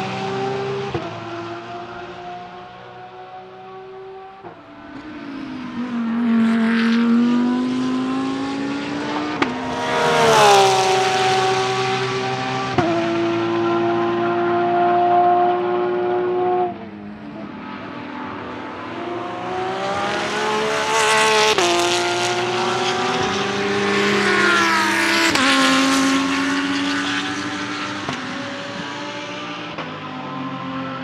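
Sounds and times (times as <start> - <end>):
race car accelerating past: 0.0 - 31.0
race car engine revving: 0.0 - 31.0.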